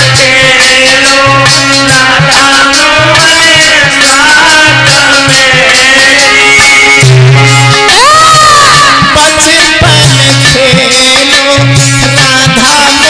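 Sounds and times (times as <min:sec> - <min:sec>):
melodic instrumental lead: 0:00.0 - 0:13.0
rattling percussion: 0:00.0 - 0:13.0
steady drum beat: 0:00.0 - 0:13.0.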